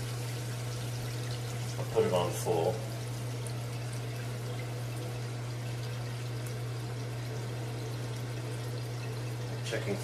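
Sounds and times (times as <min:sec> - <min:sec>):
water rushing into toilet tank: 0:00.0 - 0:10.0.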